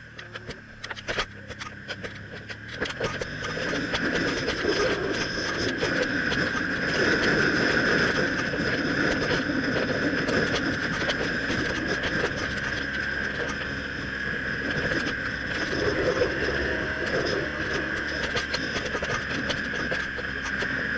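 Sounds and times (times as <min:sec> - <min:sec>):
motorcycle engine running: 0:00.0 - 0:20.9
road and wind noise: 0:00.0 - 0:20.9.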